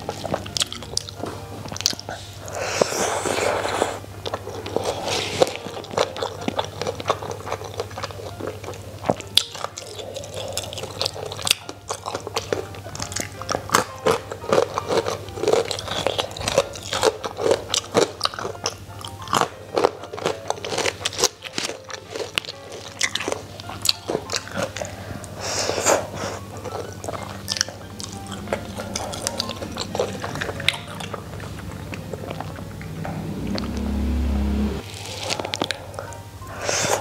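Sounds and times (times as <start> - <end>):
crunching and chewing food: 0.0 - 37.0.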